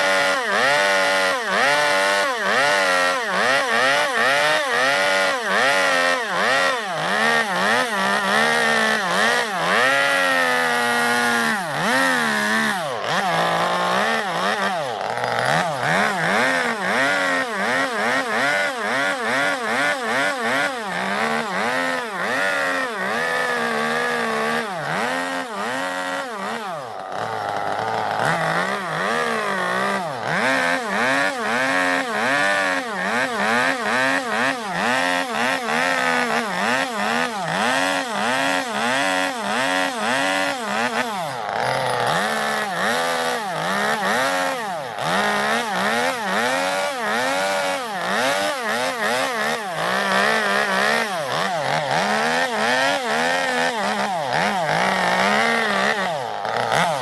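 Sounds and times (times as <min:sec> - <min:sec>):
chainsaw carving wood: 0:00.0 - 0:57.0.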